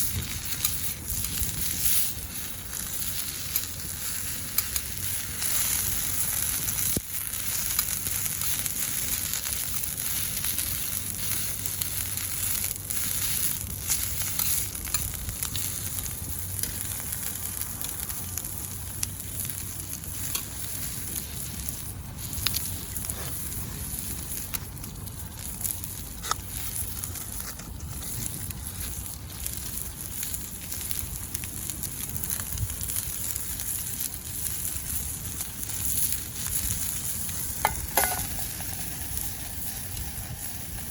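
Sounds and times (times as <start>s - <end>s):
meat sizzling in a frying pan: 0.0s - 40.9s
wood fire crackling: 0.0s - 40.9s.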